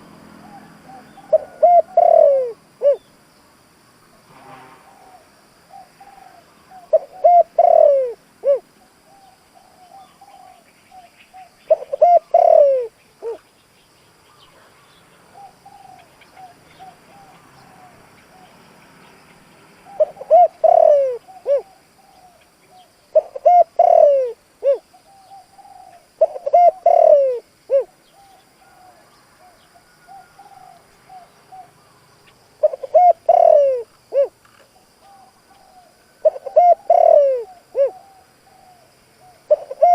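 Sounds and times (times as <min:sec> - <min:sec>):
dove cooing: 0:00.0 - 0:03.1, 0:04.8 - 0:13.4, 0:14.3 - 0:18.6, 0:19.8 - 0:31.9, 0:32.6 - 0:39.9.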